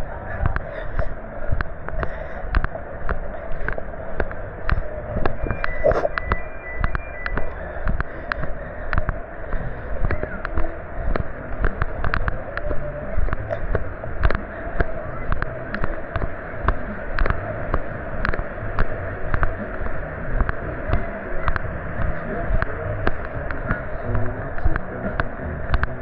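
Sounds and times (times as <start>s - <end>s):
footsteps walking: 0.0s - 24.0s
background noise wash: 0.0s - 26.0s.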